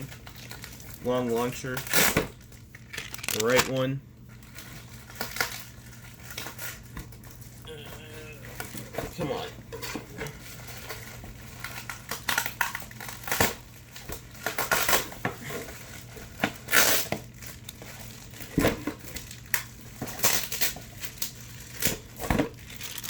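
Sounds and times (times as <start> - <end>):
packaging crinkling and rustling: 0.0 - 7.6, 9.8 - 23.0.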